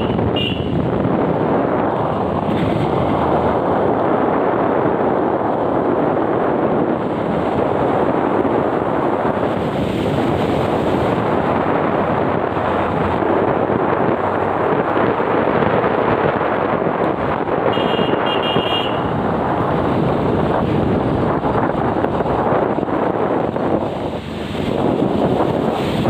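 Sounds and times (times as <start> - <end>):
tyre noise on wet road: 0.0 - 26.0
wind buffeting microphone: 0.0 - 26.0.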